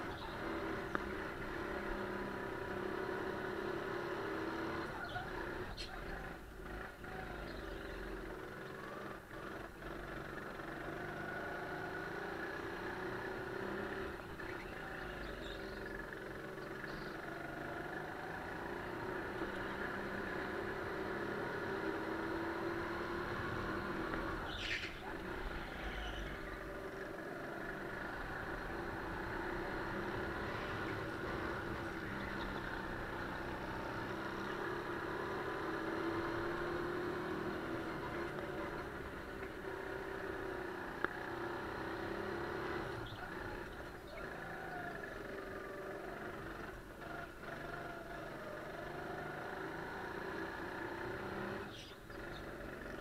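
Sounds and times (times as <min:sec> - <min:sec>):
kart engine running at speed: 0:00.0 - 0:53.0.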